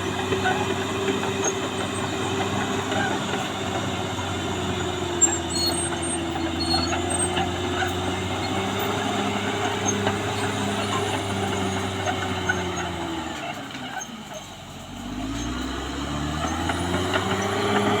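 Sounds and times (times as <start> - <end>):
bulldozer engine droning: 0.0 - 18.0.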